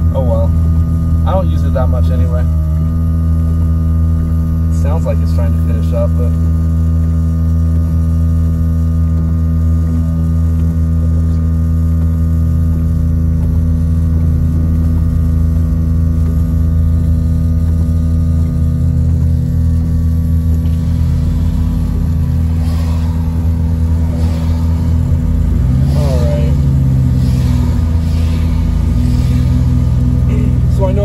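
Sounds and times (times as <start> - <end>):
air compressor humming: 0.0 - 31.0.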